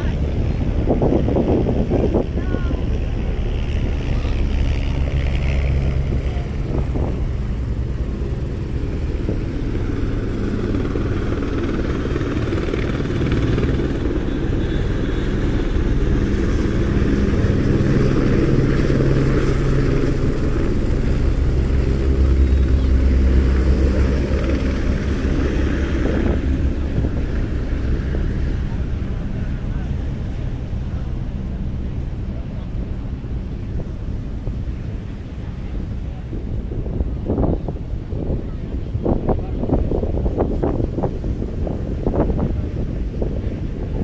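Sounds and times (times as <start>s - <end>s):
drone propellers humming: 0.0s - 44.0s.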